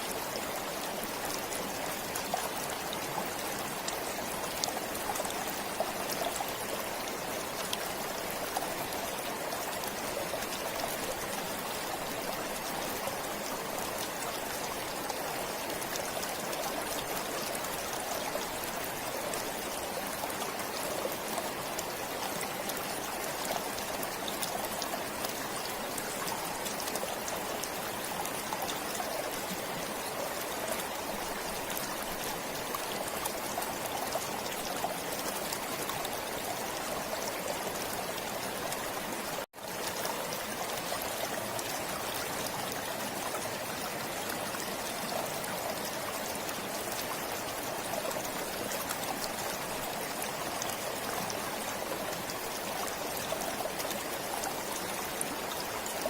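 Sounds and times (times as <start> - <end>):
stream of water flowing: 0.0 - 56.0.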